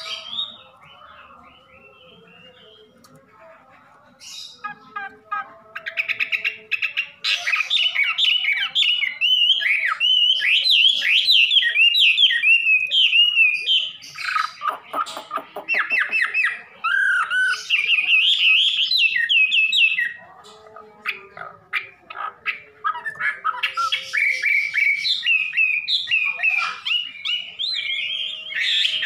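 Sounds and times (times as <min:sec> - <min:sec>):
songbird singing whistled phrases: 0:00.0 - 0:03.1, 0:05.8 - 0:20.2, 0:22.8 - 0:29.0.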